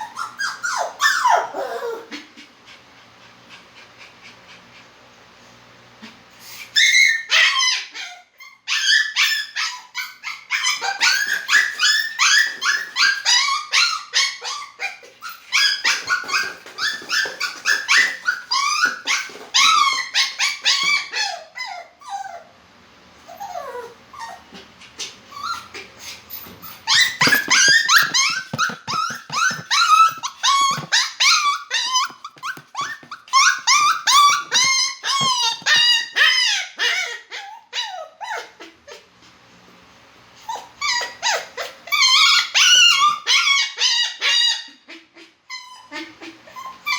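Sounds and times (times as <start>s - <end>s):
dog whining and yipping: 0.0s - 2.2s, 6.5s - 22.5s, 23.3s - 39.0s, 40.4s - 46.9s.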